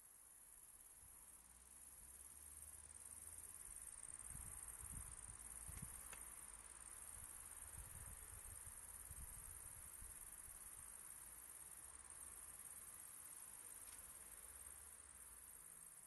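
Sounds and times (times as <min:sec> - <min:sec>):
faint high-pitched hiss: 0:00.0 - 0:16.0.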